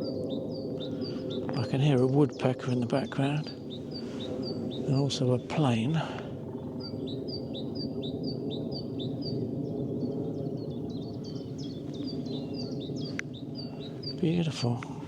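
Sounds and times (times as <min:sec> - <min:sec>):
plane droning overhead: 0:00.0 - 0:15.0
songbird chirping: 0:00.0 - 0:15.0.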